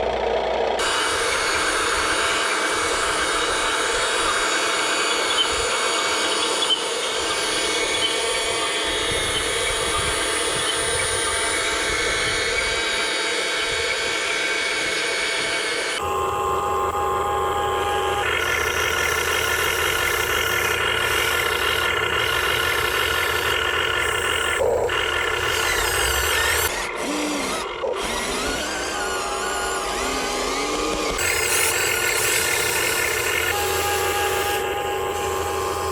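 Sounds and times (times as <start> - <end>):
small electric motors whining: 0.0 - 35.9.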